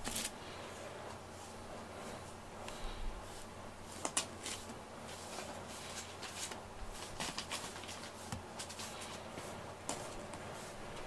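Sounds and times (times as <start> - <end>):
brush swishing through fur: 0.0 - 11.0.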